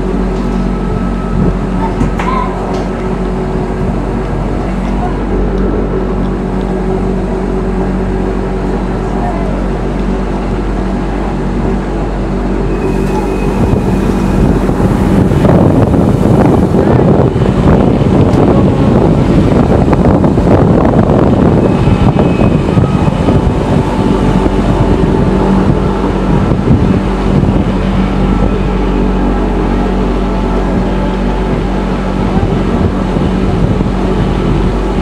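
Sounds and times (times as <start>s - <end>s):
low motor hum: 0.0s - 35.0s
train rumble: 0.0s - 35.0s.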